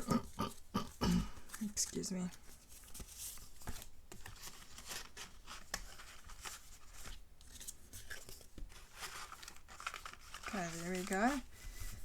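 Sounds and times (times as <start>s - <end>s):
paper rustling: 1.5s - 12.0s.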